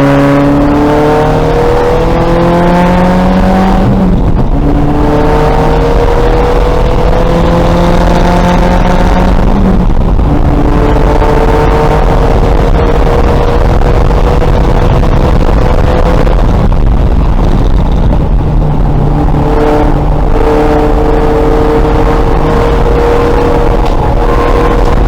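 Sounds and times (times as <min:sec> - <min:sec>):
race car engine pulling: 0:00.0 - 0:25.0
road and wind noise: 0:00.0 - 0:25.0.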